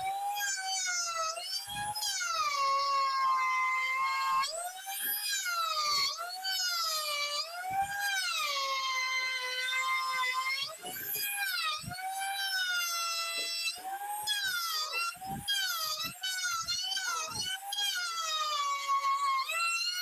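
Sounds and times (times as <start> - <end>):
trim router whining: 0.0 - 20.0.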